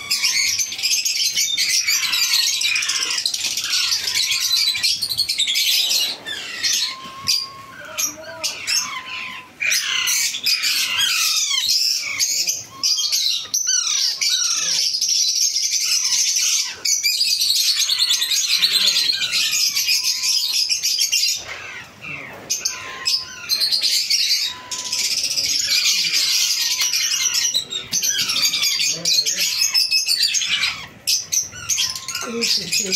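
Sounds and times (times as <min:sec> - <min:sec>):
parakeet chicks begging calls: 0:00.0 - 0:32.9.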